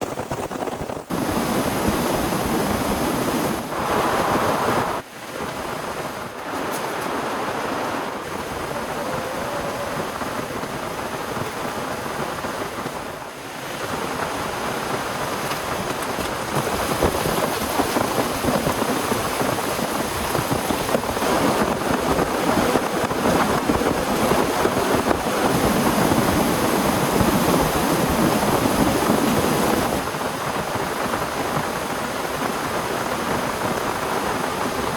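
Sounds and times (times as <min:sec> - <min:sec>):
heavy rain hissing: 0:01.1 - 0:34.9.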